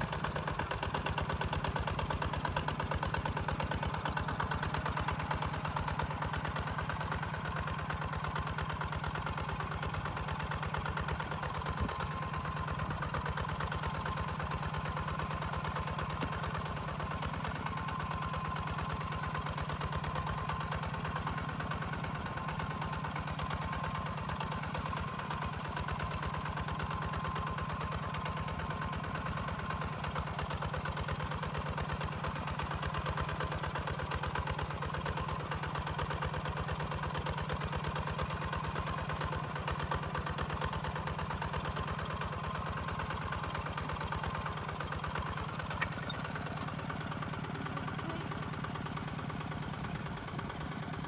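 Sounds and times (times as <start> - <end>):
diesel engine chugging: 0.0 - 51.0.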